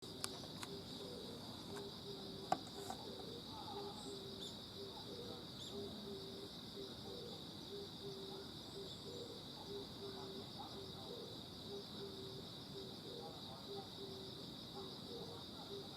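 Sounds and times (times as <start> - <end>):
high-pitched insect chorus: 0.0 - 15.9.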